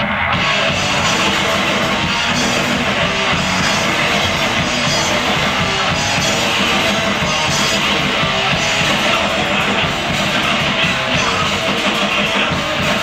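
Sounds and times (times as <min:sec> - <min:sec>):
hardcore punk band playing live: 0:00.0 - 0:13.0.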